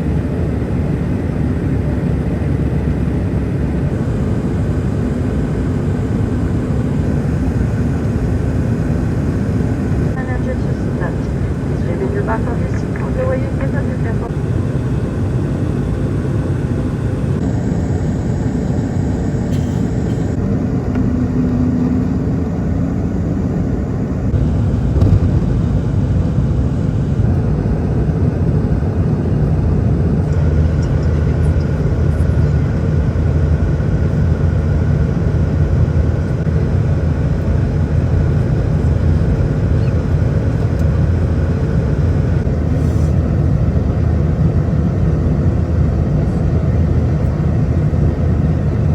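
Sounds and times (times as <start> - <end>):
jet engine rumble: 0.0 - 48.9.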